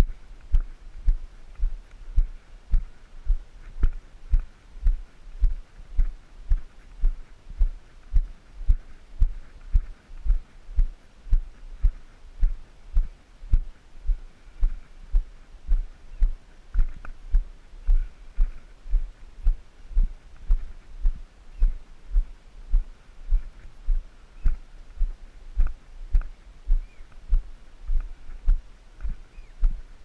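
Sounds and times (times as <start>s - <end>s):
footsteps on concrete: 0.0s - 29.9s.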